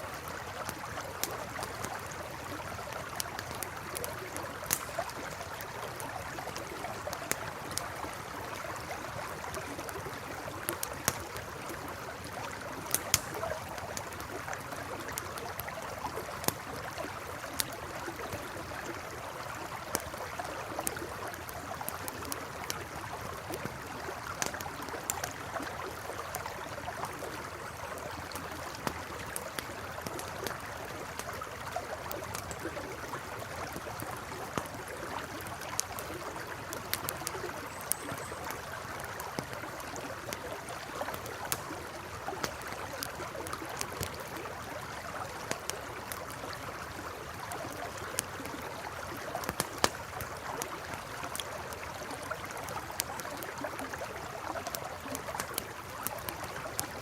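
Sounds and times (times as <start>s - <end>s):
campfire crackling: 0.0s - 57.0s
river flowing: 0.0s - 57.0s.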